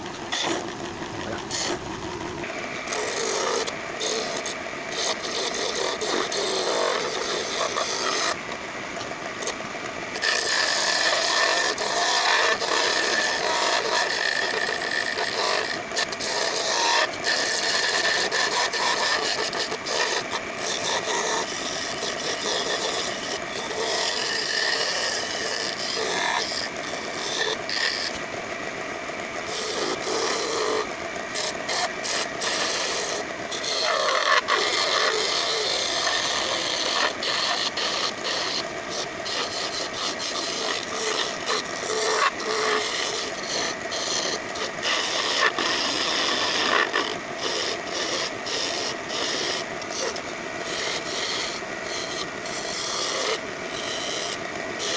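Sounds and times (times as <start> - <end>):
chisel scraping wood on a lathe: 0.0 - 28.3, 29.4 - 54.9.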